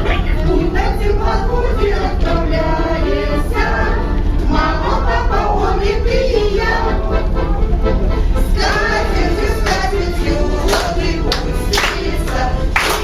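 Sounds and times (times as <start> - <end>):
group singing together: 0.0 - 13.0
low musical accompaniment: 0.0 - 13.0.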